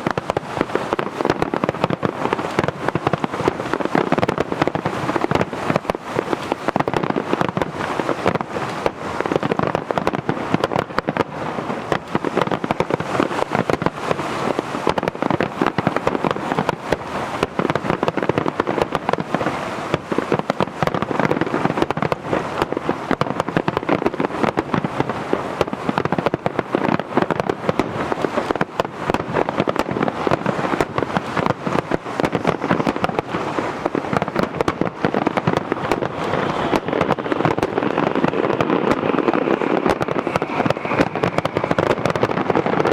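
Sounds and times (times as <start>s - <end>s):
aerial fireworks bursting and crackling: 0.0s - 42.9s.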